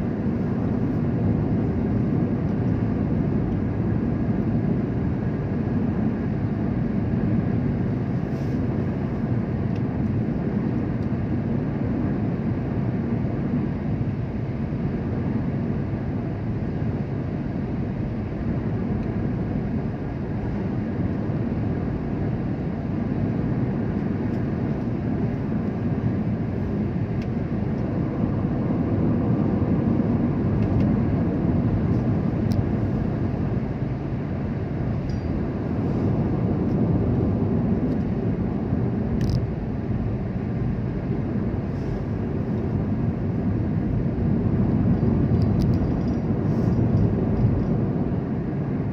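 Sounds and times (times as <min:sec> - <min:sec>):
vehicle engine and road noise: 0:00.0 - 0:48.9.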